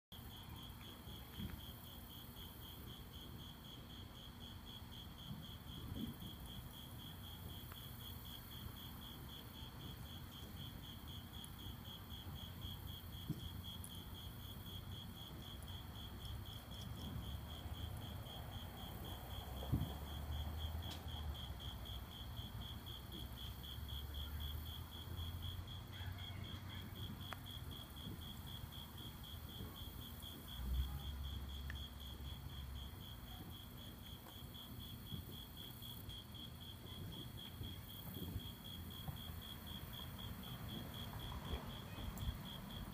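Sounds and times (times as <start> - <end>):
cricket chirping: 0.2 - 42.9.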